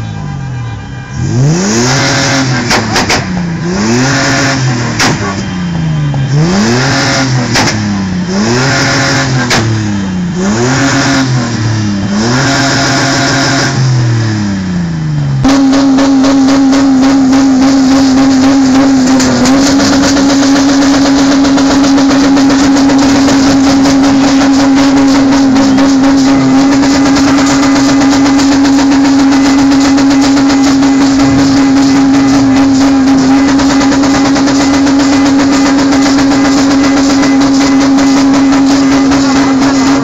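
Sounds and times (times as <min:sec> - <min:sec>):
car engine revving high: 0:01.1 - 0:40.0.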